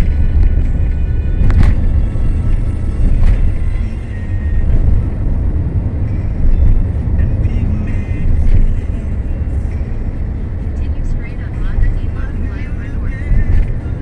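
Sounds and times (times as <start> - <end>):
car cabin road rumble: 0.0 - 14.0.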